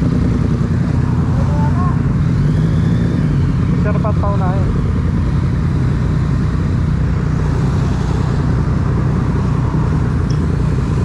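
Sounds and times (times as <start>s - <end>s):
motorcycle engine drone: 0.0s - 11.0s.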